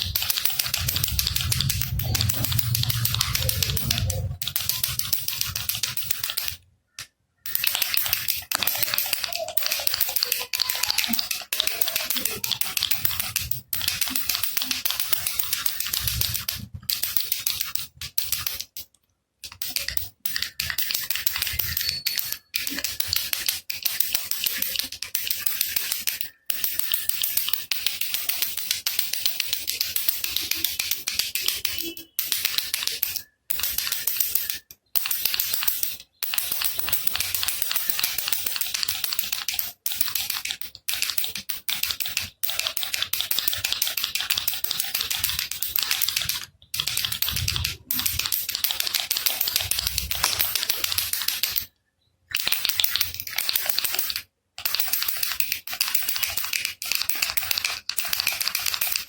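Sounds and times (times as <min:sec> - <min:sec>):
baby rattle shaken: 0:00.0 - 0:06.6, 0:07.5 - 0:18.7, 0:19.5 - 0:51.7, 0:52.4 - 0:59.0.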